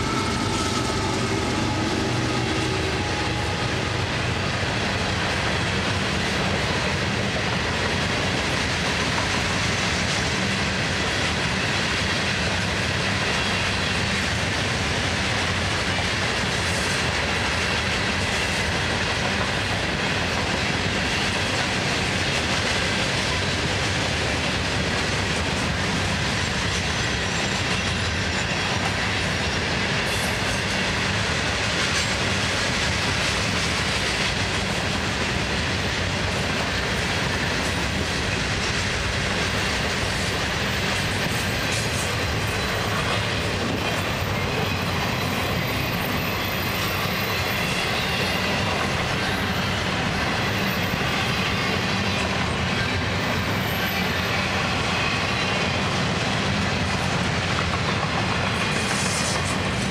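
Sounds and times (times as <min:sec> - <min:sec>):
freight train wheels on rail: 0:00.0 - 0:59.9.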